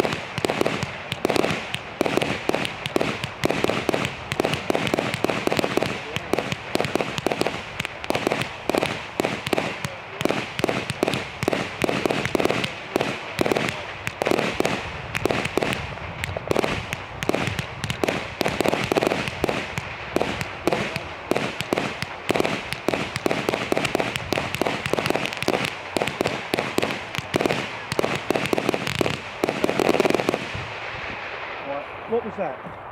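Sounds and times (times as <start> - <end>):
firework pops and crackles: 0.0 - 31.6.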